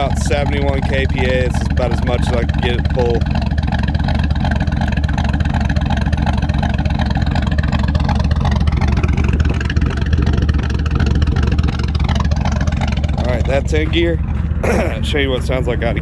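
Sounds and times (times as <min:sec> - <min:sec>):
truck engine idling with lope: 0:00.0 - 0:16.0.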